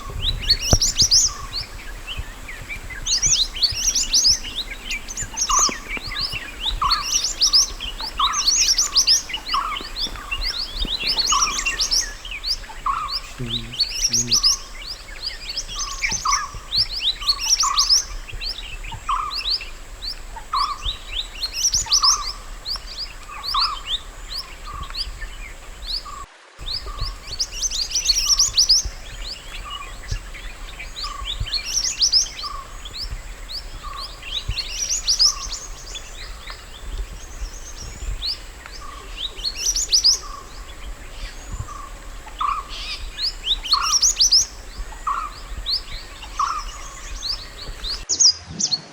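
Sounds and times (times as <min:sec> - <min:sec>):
lower bird chirps: 0:00.0 - 0:48.1.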